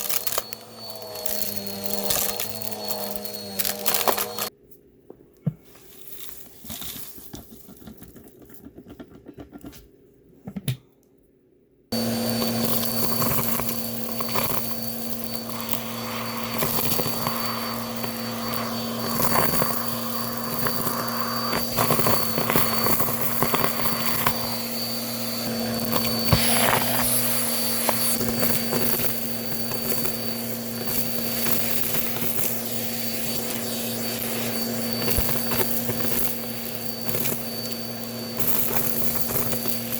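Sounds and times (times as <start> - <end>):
vacuum cleaner motor whining: 0.0 - 4.5, 11.9 - 39.9.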